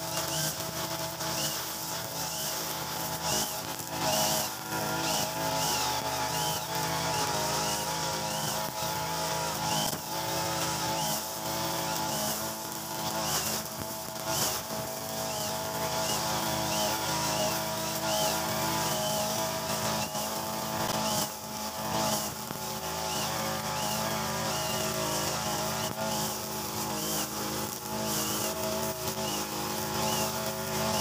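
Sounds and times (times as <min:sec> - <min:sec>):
brush cutter engine running: 0:00.0 - 0:31.0.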